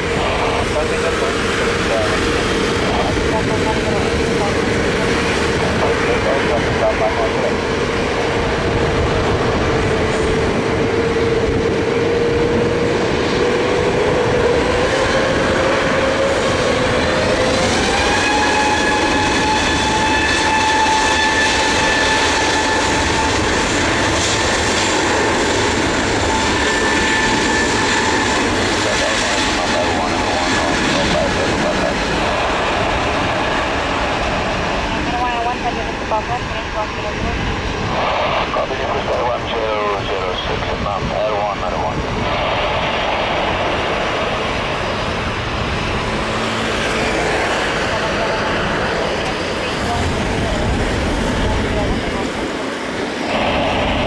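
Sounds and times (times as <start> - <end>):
jet engines roaring with whine: 0.0 - 54.0.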